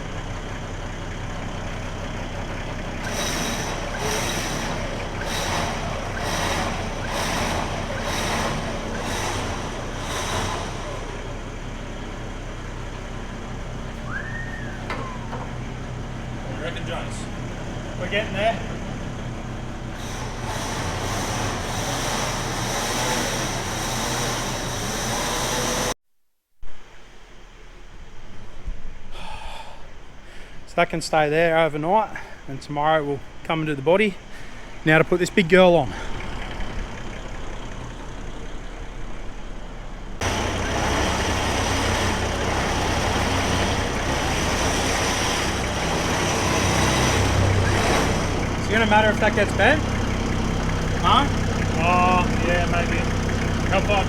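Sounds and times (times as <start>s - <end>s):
mechanical running noise: 0.0s - 26.0s, 35.4s - 54.0s.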